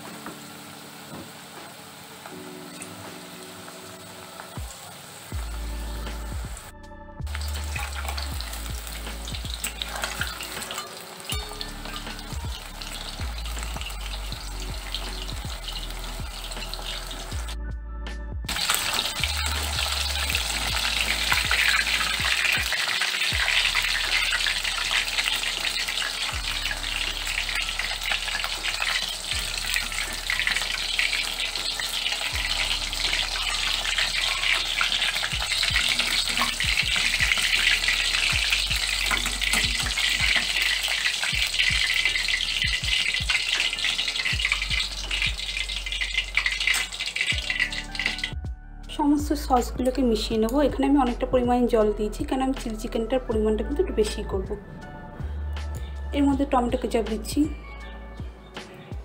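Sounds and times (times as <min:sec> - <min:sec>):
chicken deep-frying in oil: 0:00.0 - 0:17.6, 0:18.5 - 0:48.4.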